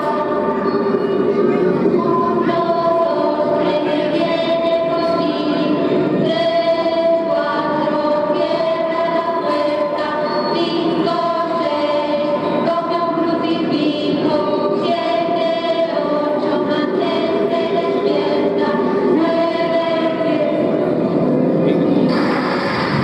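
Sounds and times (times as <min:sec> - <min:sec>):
choir singing long held notes: 0:00.0 - 0:21.3.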